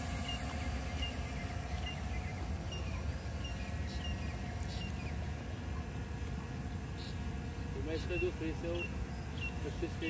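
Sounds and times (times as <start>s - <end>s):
drones hovering hum: 0.0s - 10.0s
small birds chirping: 0.0s - 10.0s.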